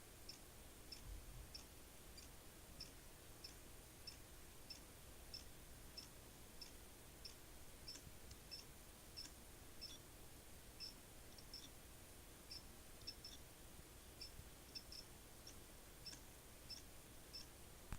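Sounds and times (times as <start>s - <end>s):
faint clicking inside computer: 0.0s - 10.1s, 10.8s - 11.8s, 12.5s - 13.5s, 14.1s - 17.9s
low computer hum: 0.0s - 17.9s.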